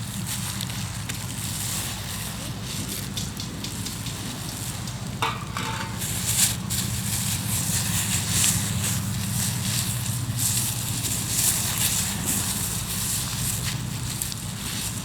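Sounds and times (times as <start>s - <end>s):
campfire hissing and crackling: 0.0s - 15.0s.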